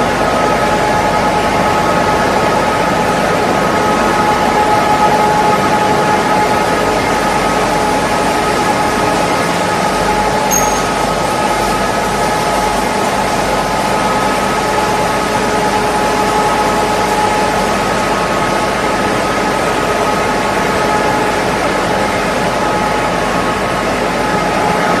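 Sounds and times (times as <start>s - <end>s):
constant machine whine: 0.0s - 25.0s.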